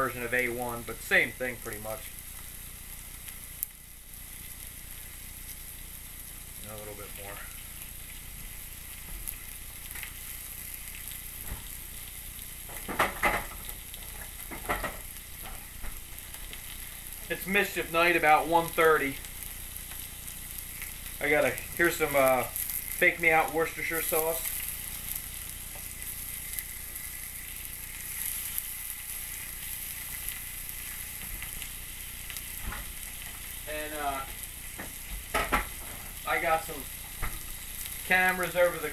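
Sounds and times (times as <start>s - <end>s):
steaks sizzling on a grill pan: 0.0s - 38.9s.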